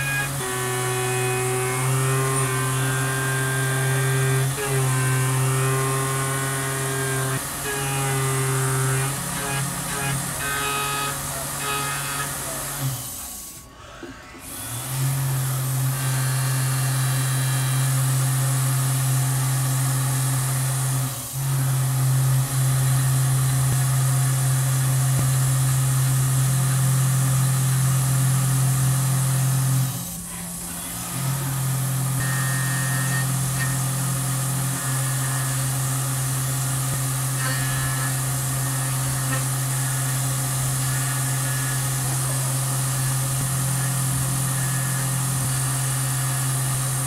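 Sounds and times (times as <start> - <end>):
milling machine cutting metal: 0.0 - 13.7, 14.4 - 47.0.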